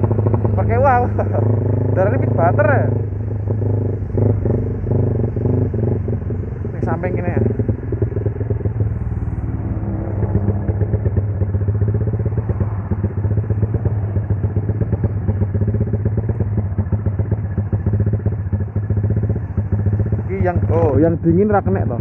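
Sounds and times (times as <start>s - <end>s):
motorcycle engine and exhaust running: 0.0s - 22.0s.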